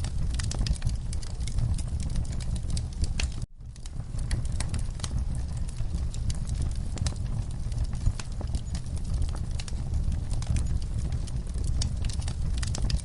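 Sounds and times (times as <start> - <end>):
low steady rumble: 0.0 - 13.0
wood fire crackling and popping: 0.0 - 13.0.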